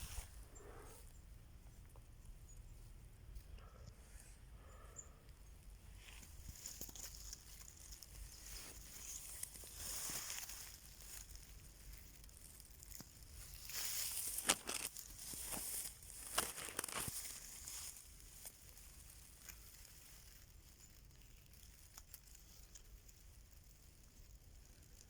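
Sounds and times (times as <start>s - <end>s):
background hiss: 0.0s - 25.0s
rustling and crackling: 0.0s - 25.0s.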